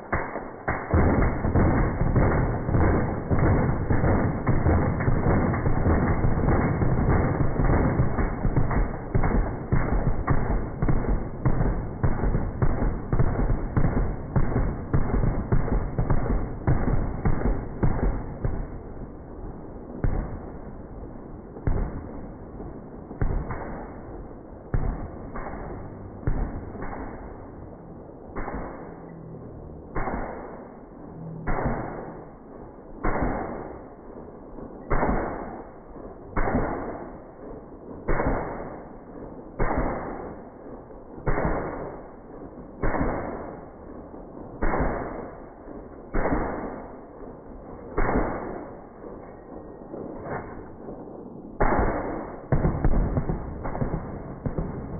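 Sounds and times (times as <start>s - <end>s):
slowed-down machine gun booms: 0.0s - 54.9s.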